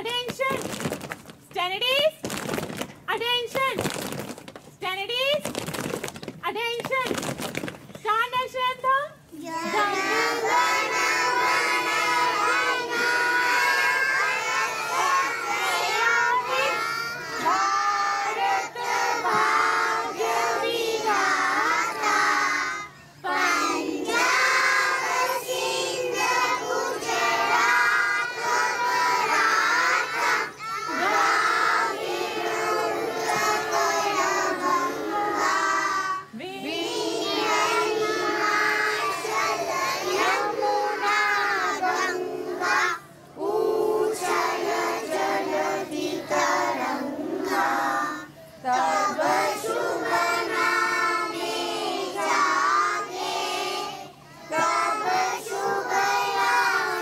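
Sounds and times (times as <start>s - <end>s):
children singing in unison: 9.5s - 57.0s.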